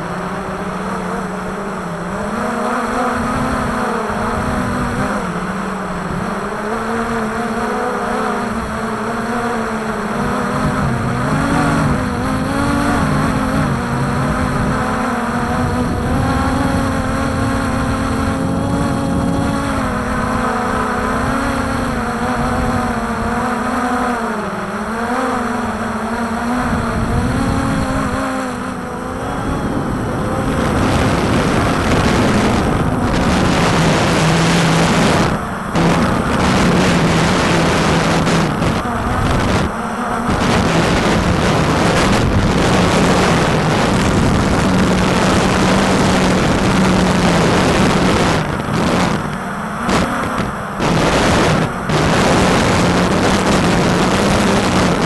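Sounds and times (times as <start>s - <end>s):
drone rotors whining: 0.0s - 55.0s
wind rushing over microphone: 0.0s - 55.0s.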